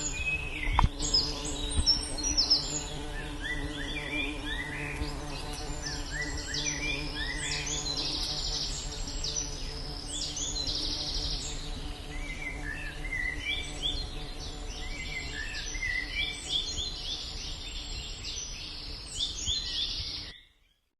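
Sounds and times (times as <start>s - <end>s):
insects buzzing in pulses: 0.0s - 20.3s.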